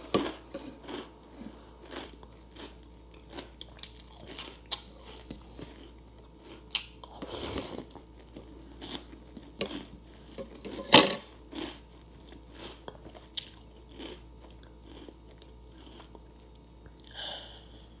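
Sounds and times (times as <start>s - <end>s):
person chewing crunchy food: 0.0s - 17.2s.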